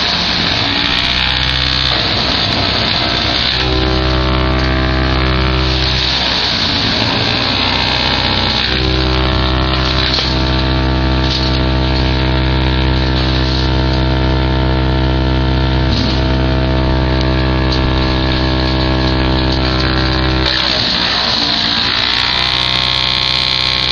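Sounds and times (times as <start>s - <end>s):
tractor and branch chipper running: 0.0s - 23.9s.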